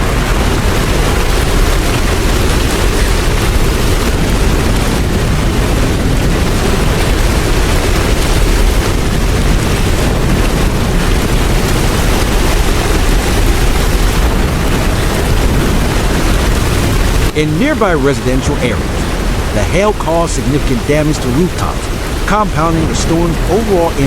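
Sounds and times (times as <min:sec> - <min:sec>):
hail: 0:00.0 - 0:24.0
wind: 0:00.0 - 0:24.0.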